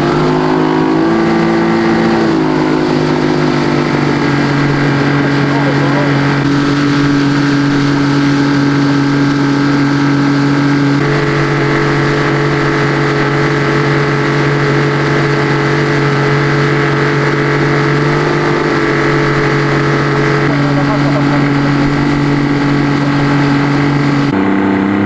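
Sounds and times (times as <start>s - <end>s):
outboard motor running: 0.0s - 25.0s.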